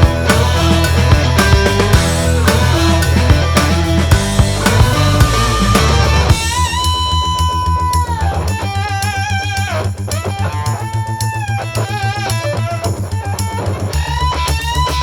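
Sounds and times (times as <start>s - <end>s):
bass guitar: 0.0s - 15.0s
drums: 0.0s - 15.0s
electric guitar bending notes: 0.0s - 15.0s.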